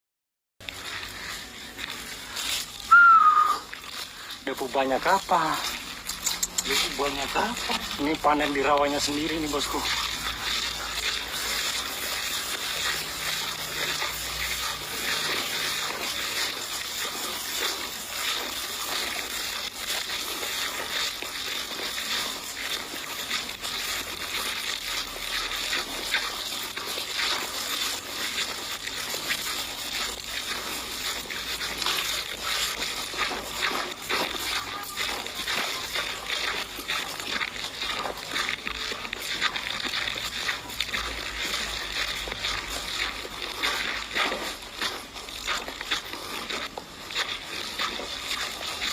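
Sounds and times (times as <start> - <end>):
water splashing and sloshing: 0.6 - 48.9.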